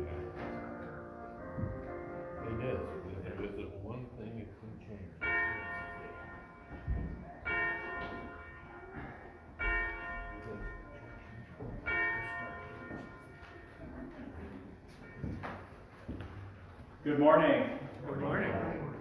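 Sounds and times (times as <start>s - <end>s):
church bell tolling: 0.0s - 4.2s, 5.0s - 16.2s.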